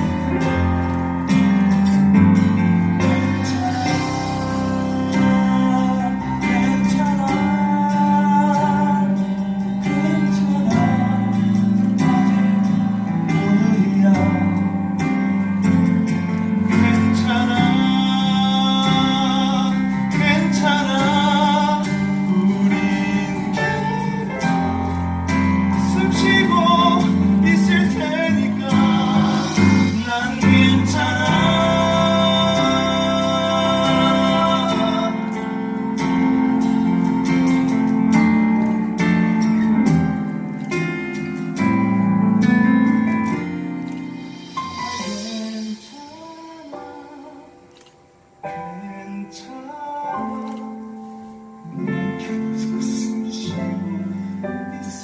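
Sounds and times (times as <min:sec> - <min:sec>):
person singing: 0:00.0 - 0:40.9, 0:41.6 - 0:55.0
live band music with guitar: 0:00.0 - 0:49.6, 0:50.2 - 0:55.0.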